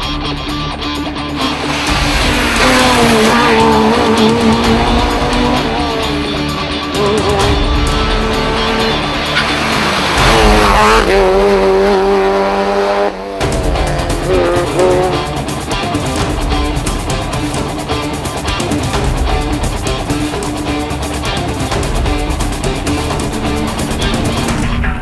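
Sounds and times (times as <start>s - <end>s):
rally car engines revving: 0.3s - 24.6s.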